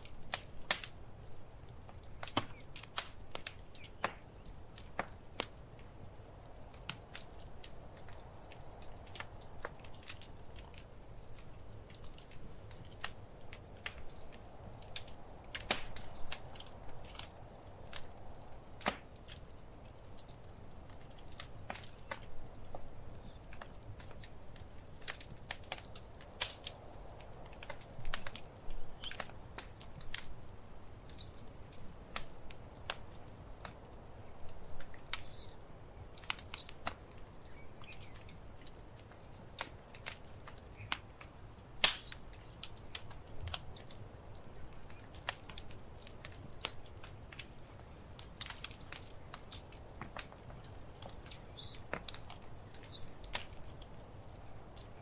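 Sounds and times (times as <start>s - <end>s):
low rumble of flames: 0.0s - 55.0s
wood fire popping: 0.0s - 55.0s.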